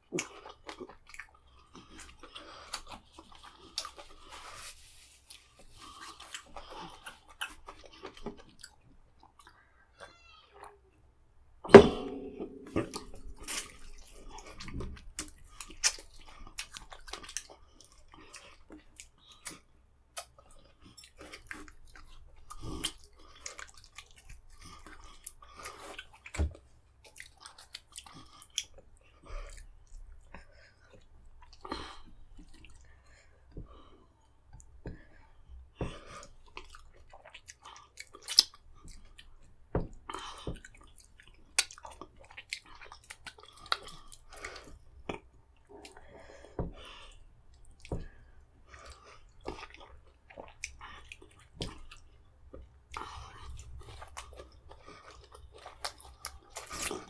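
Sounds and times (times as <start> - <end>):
wet chewing and lip smacking: 0.0 - 4.6, 5.2 - 9.7, 12.5 - 57.0.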